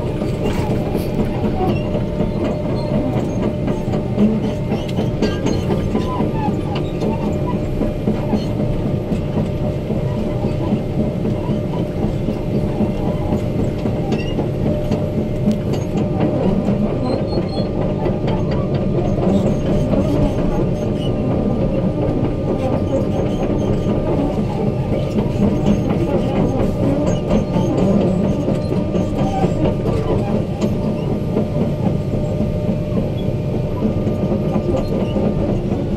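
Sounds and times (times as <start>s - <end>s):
excavator diesel engine drone: 0.0s - 35.9s.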